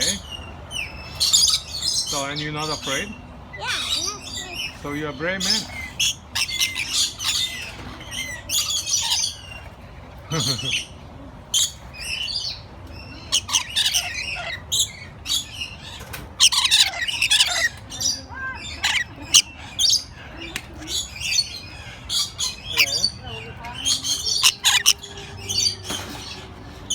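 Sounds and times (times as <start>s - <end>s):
parrots squawking: 0.0s - 26.9s.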